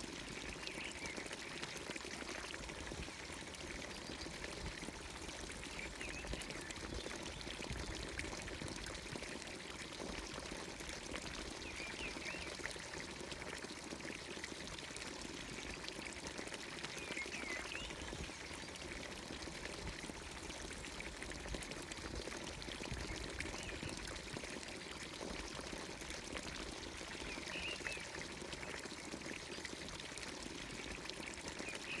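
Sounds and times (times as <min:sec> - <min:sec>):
water pouring into a trough: 0:00.0 - 0:32.0.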